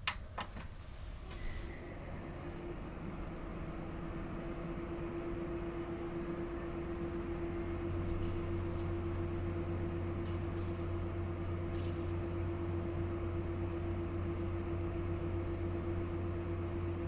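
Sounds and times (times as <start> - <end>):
computer cooling fans humming: 0.0 - 17.0.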